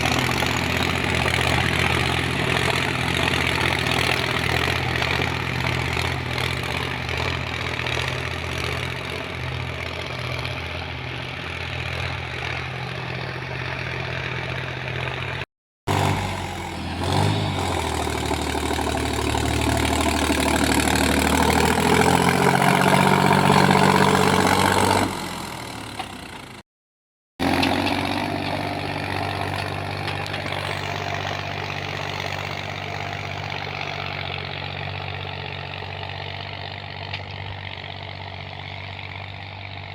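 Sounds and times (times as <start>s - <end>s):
tractor diesel engine running: 0.0s - 26.6s, 27.4s - 39.9s.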